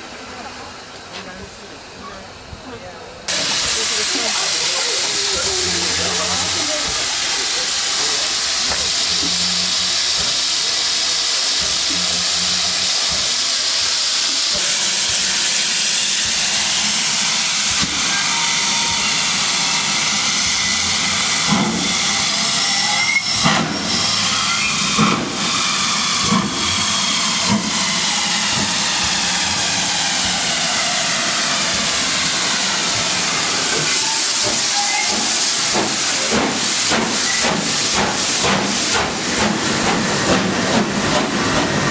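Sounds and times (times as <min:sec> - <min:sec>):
train rushing hiss: 0:00.0 - 0:41.9.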